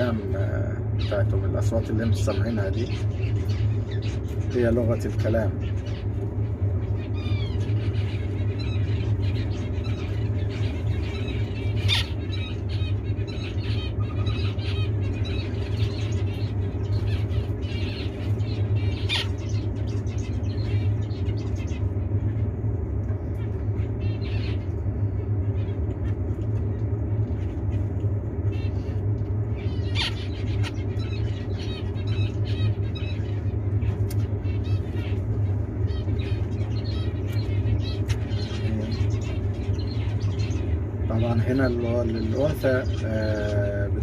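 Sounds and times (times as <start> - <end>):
finches chirping: 0.0 - 44.0
low hum: 0.0 - 44.0.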